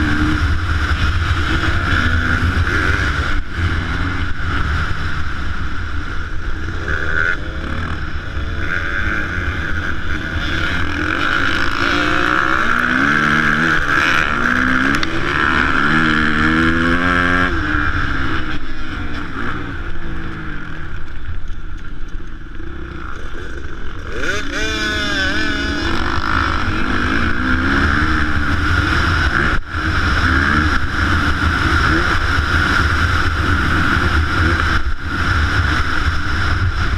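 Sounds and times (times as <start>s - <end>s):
motocross bike engines revving: 0.0s - 36.9s.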